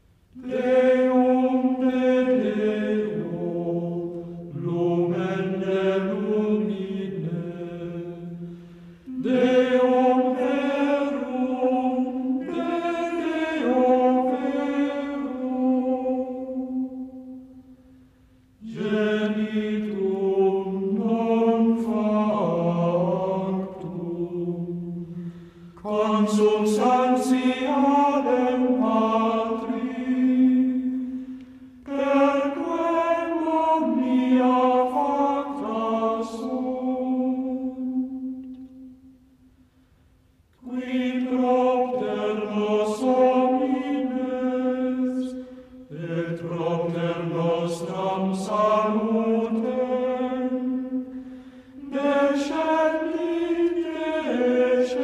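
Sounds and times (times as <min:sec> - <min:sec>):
slow chant-like singing: 0:00.0 - 0:55.0.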